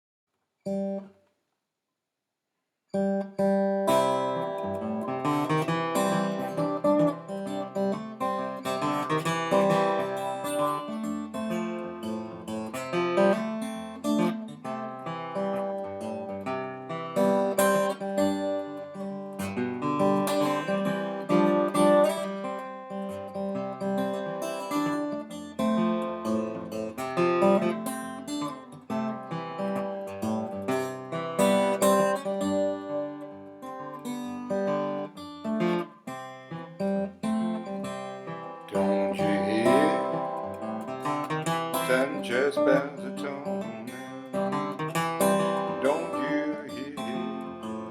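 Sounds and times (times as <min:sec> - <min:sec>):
acoustic guitar blues playing: 0:00.7 - 0:01.1, 0:02.9 - 0:47.9.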